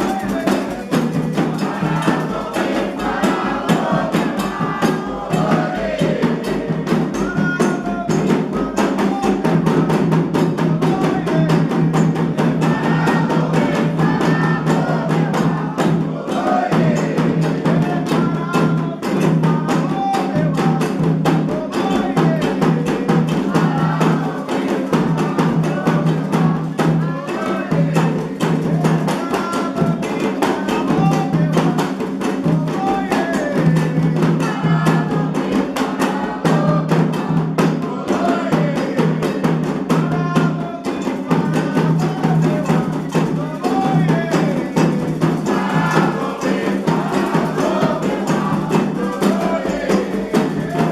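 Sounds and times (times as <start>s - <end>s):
fast hand drumming: 0.0s - 50.9s
voices singing: 0.0s - 50.9s.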